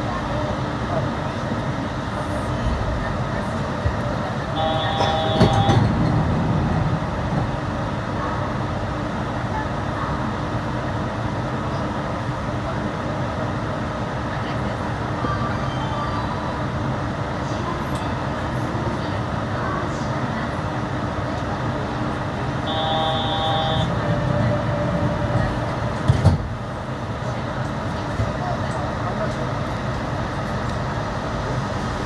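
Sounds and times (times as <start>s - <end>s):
train rolling noise: 0.0s - 32.0s.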